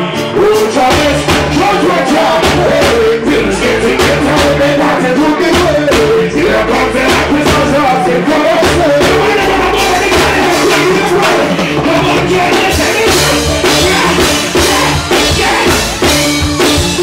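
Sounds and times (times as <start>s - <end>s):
man singing: 0.0s - 16.3s
bass guitar: 0.0s - 17.0s
drum kit: 0.0s - 17.0s
electric guitar: 0.0s - 17.0s
keyboards: 0.0s - 17.0s.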